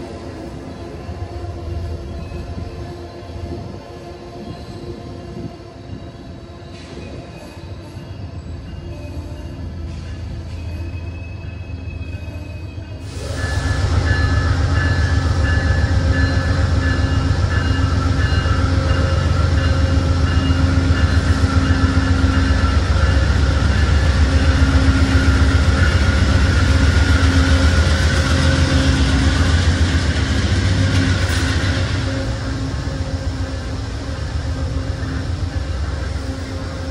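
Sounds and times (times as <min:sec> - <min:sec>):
diesel locomotive rumbling past: 0:00.0 - 0:36.9.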